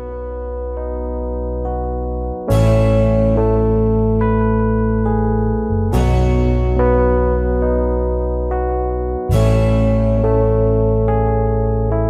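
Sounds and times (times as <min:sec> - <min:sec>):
electric piano chords: 0:00.0 - 0:12.0
steady bass: 0:00.0 - 0:12.0.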